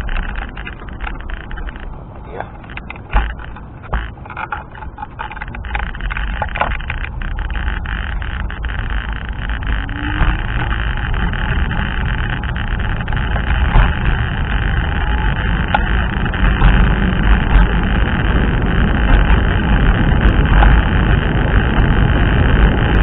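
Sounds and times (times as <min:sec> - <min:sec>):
sharp clicks and knocks: 0:00.0 - 0:23.0
wind buffeting microphone: 0:00.0 - 0:23.0.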